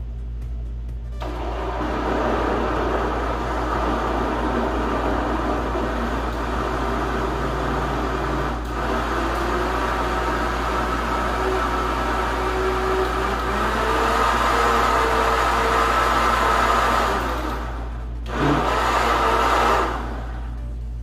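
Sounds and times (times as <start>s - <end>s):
blender running: 1.2s - 20.6s.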